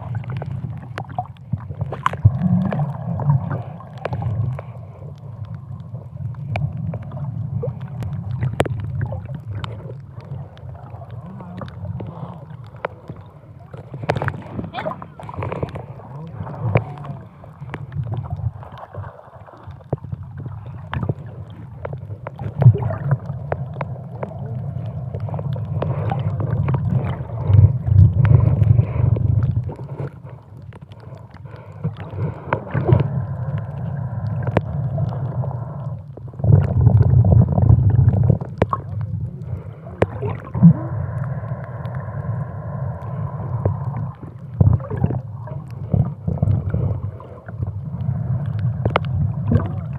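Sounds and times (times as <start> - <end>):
underwater gurgling rumble: 0.0 - 49.9.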